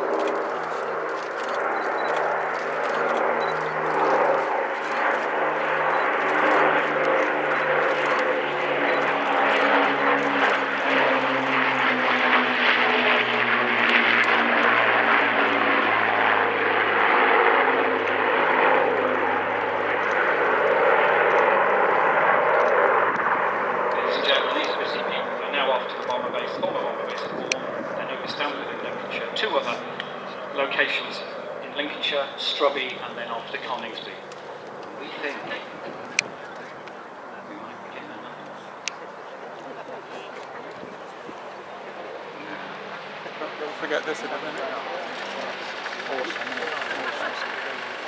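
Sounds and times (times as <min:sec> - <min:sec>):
propeller aircraft engines droning: 0:00.0 - 0:48.0.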